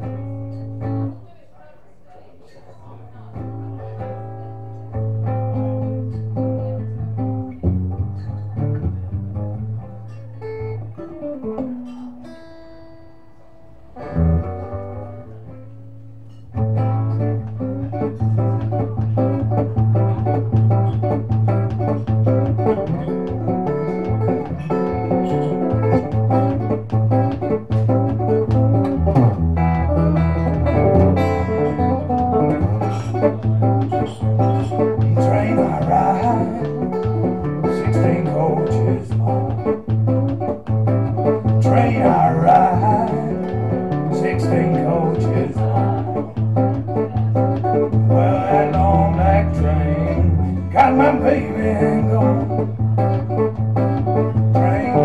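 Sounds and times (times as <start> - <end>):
acoustic guitar playing: 0.0 - 1.2, 3.2 - 55.0.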